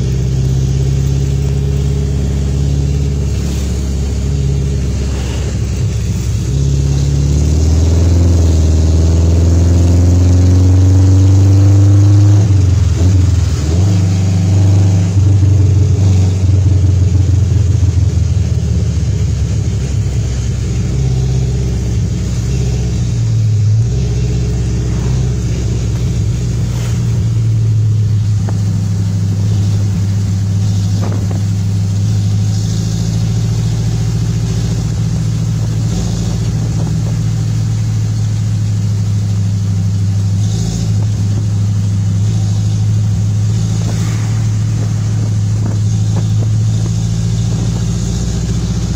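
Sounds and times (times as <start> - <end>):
jeep engine running: 0.0 - 48.9.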